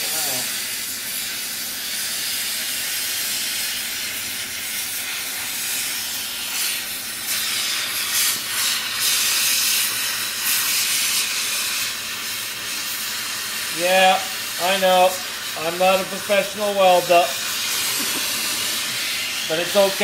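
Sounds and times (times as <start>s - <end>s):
torch flame hissing: 0.0s - 20.0s.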